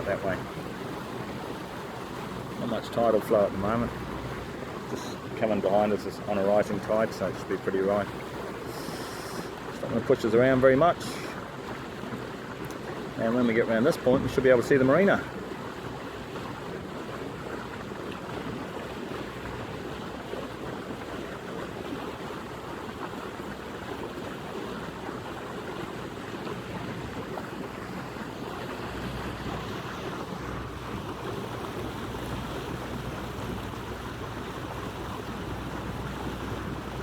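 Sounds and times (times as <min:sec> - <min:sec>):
boat engine hum: 0:00.0 - 0:37.0
water washing along hull: 0:00.0 - 0:37.0.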